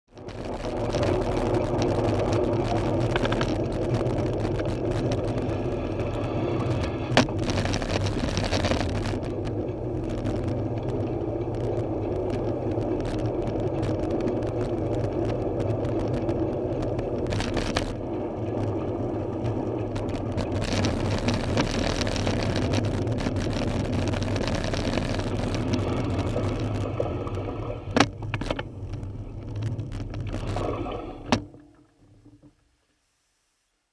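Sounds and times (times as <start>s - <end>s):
road noise: 0.1s - 31.4s.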